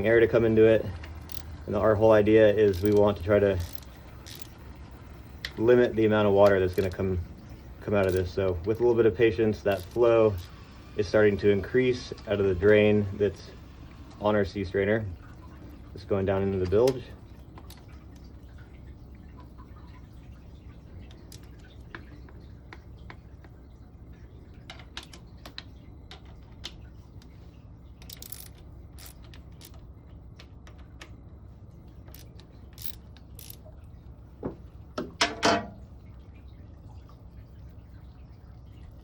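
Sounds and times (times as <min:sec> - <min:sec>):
steady low hum: 0:00.0 - 0:39.0
water dripping and trickling: 0:00.0 - 0:39.0.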